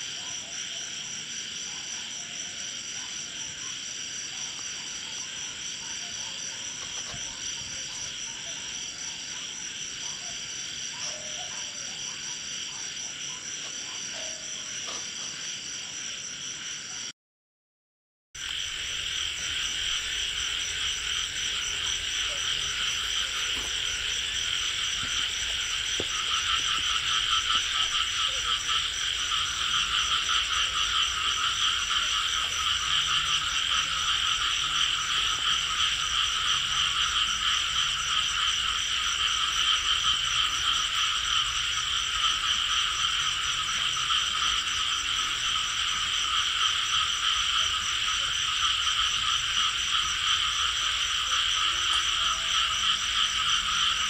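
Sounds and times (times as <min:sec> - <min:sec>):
frogs calling: 0:00.0 - 0:17.1, 0:18.4 - 0:54.0
low-pitched frogs calling: 0:00.0 - 0:17.1, 0:18.4 - 0:54.0.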